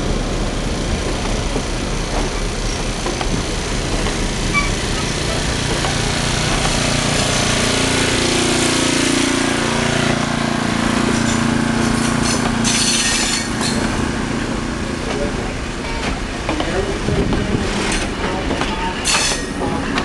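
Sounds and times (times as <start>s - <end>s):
train wheels on rail: 0.0s - 20.0s.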